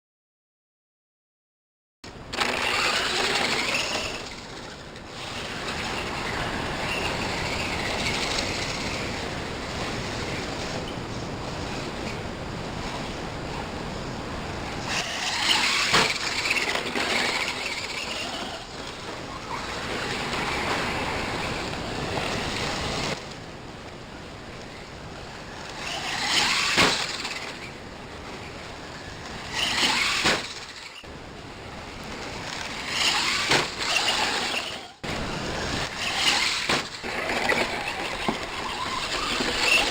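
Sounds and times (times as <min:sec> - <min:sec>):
rc car electric motor whining: 0:02.3 - 0:39.9
tyres on gravel: 0:02.3 - 0:39.9.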